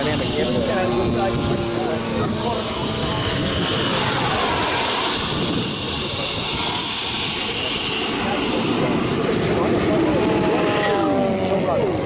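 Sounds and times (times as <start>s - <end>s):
jet turbine engine whine: 0.0s - 12.0s
steady rushing noise: 0.0s - 12.0s.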